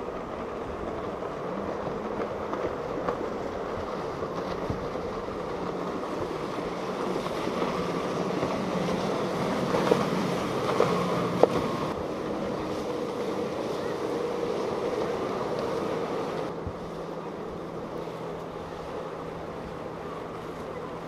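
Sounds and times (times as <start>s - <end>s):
outboard motors droning: 0.0s - 21.0s
wind: 0.0s - 21.0s.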